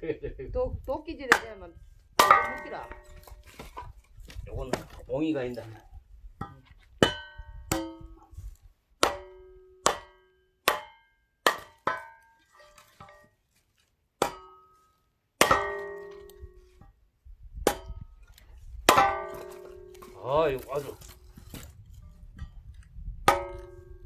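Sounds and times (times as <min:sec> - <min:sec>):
axe splitting firewood: 0:01.2 - 0:05.8, 0:06.4 - 0:17.0, 0:17.6 - 0:24.0.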